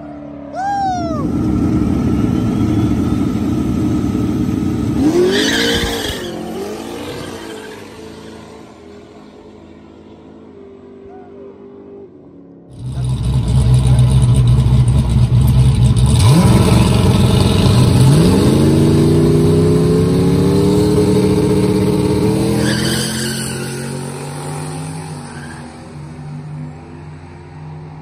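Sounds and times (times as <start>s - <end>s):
drag car engine accelerating: 1.2s - 10.6s, 12.2s - 28.0s.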